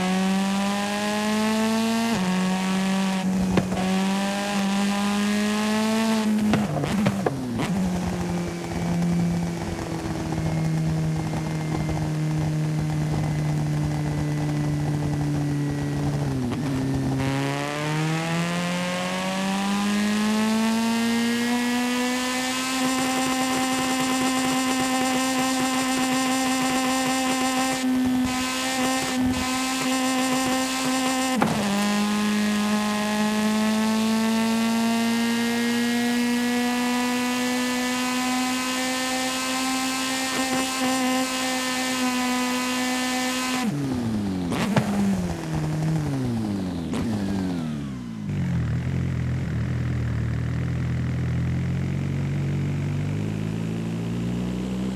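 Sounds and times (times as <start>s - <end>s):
video game car engine: 0.0s - 54.9s.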